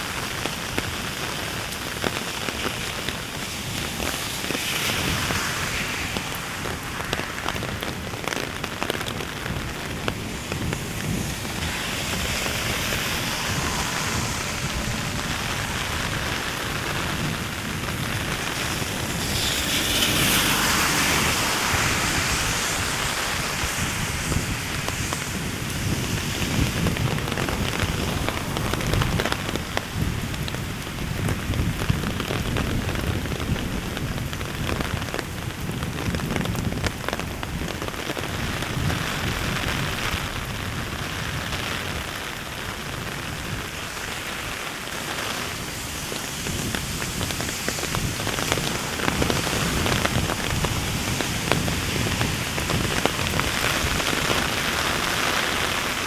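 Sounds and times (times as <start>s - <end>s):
heavy rain falling: 0.0s - 56.0s
raindrops pattering: 0.0s - 56.0s.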